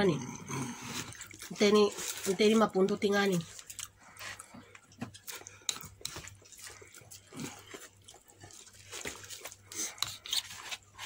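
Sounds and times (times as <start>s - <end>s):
chewing fried chicken: 0.2s - 11.0s.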